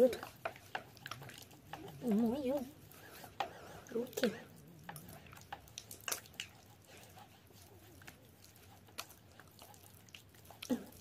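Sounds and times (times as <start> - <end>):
hands rubbing sticky gel: 0.0 - 11.0.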